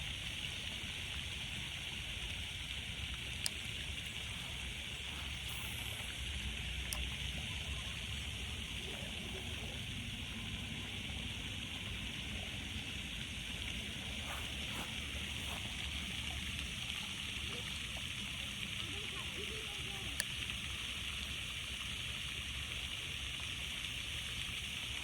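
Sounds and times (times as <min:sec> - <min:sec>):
running water rushing: 0:00.0 - 0:25.0.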